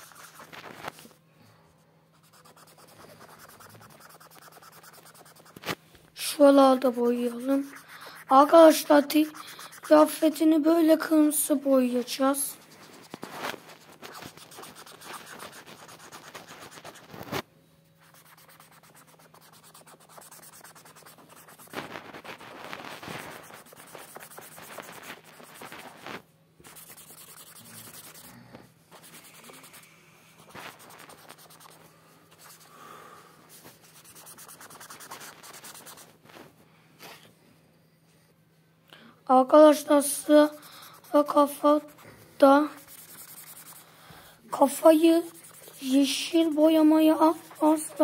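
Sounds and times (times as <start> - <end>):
marker scribbling on paper: 0.0 - 0.6, 2.1 - 17.4, 18.0 - 26.0, 26.6 - 28.3, 28.9 - 29.8, 30.4 - 32.7, 33.6 - 36.2, 39.8 - 43.9, 44.5 - 48.0.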